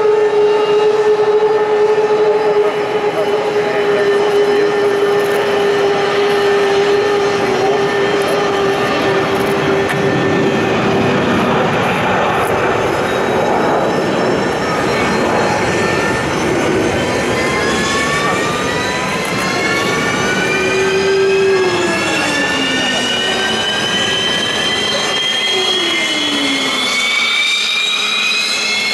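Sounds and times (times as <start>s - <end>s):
jet engine whine spooling up: 0.0s - 28.9s.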